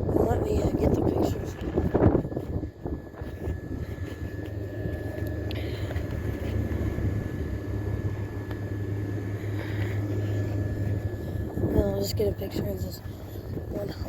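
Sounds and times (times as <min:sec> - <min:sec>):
compressor and fan hum: 0:00.0 - 0:14.0
high-pitched whine: 0:00.0 - 0:14.0.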